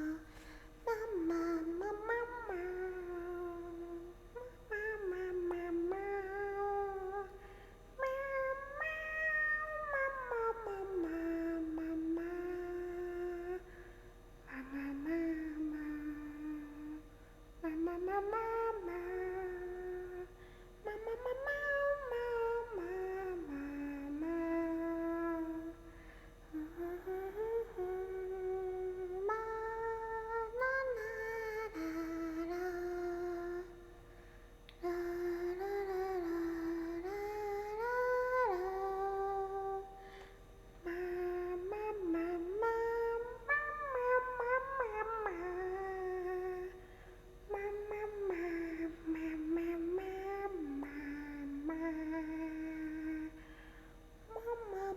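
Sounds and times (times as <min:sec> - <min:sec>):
woman humming: 0:00.0 - 0:53.5, 0:54.3 - 0:54.9.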